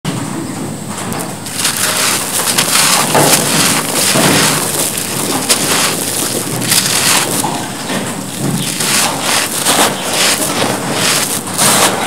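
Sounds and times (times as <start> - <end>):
cement blocks crumbling by hand: 1.4 - 12.0.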